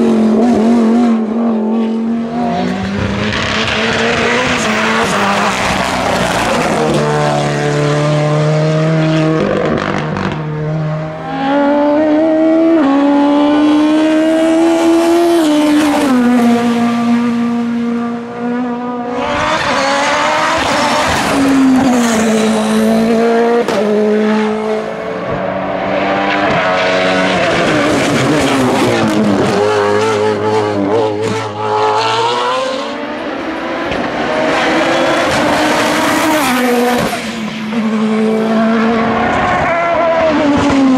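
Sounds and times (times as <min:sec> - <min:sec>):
race car engines at full throttle: 0:00.0 - 0:40.9.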